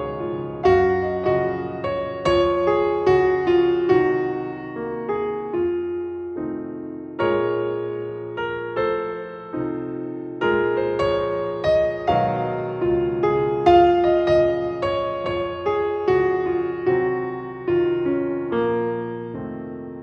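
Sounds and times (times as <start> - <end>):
slow solo piano piece: 0.0 - 20.0.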